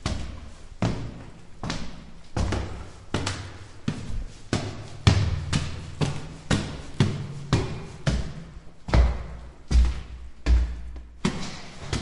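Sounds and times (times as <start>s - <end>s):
footsteps on stone stairs: 0.0s - 12.0s.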